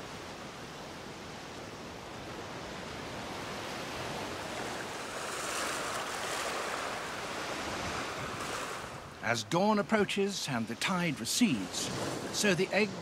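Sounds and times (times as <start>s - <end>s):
sea water washing over shore: 0.0s - 13.0s.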